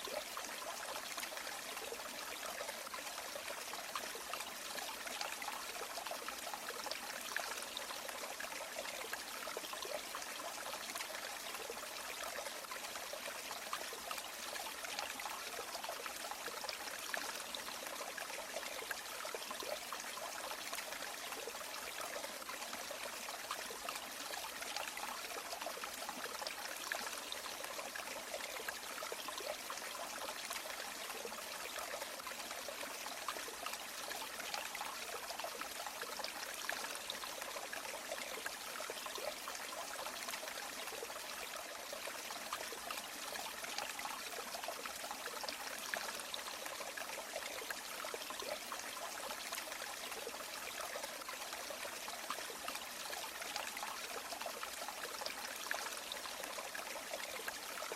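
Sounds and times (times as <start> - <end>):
stream flowing over stones: 0.0 - 57.9.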